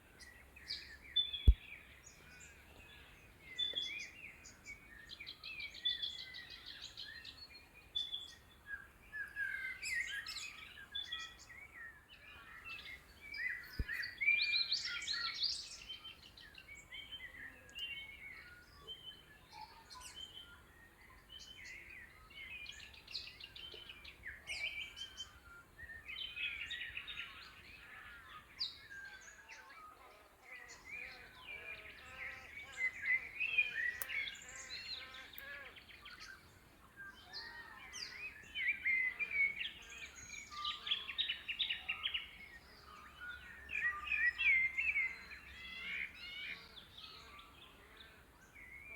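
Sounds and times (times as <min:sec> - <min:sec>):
birds chirping and warbling: 0:00.0 - 0:48.9.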